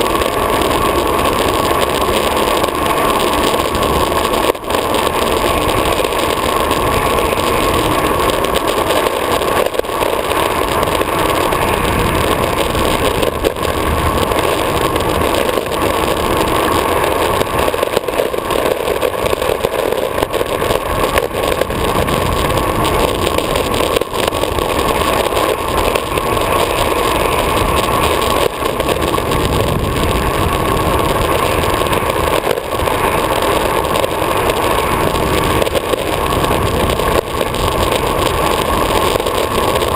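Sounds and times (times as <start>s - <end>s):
skateboard wheels rolling on asphalt: 0.0s - 39.9s.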